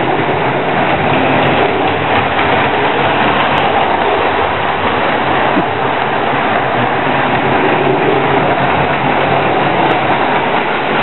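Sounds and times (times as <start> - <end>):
toy train running on track: 0.0 - 11.0.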